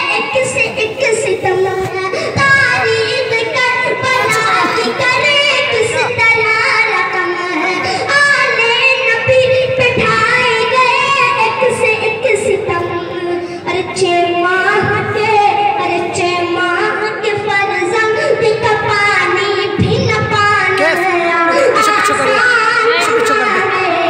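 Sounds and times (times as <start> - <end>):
boy singing devotional song: 0.0 - 24.0.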